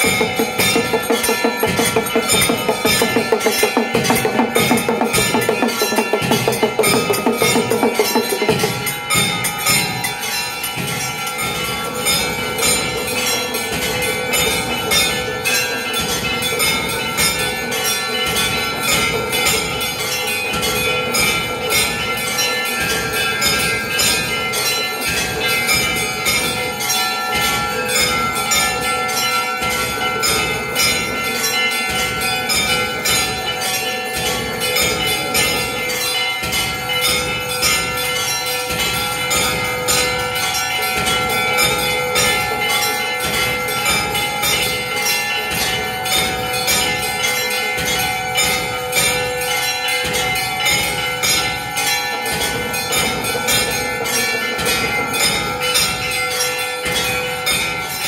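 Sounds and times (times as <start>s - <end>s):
temple bells clanging: 0.0s - 58.0s.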